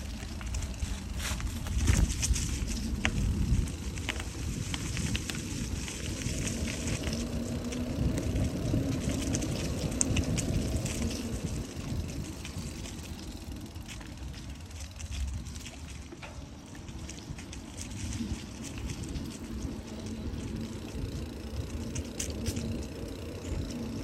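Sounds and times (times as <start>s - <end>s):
bicycle tyres rolling over leaves: 0.0s - 24.0s
small crackles and clicks: 0.0s - 24.0s
wind on microphone: 0.0s - 24.0s.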